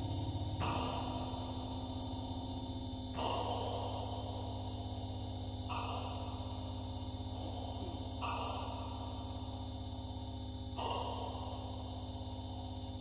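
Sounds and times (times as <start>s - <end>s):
ambient drone music: 0.0s - 13.0s.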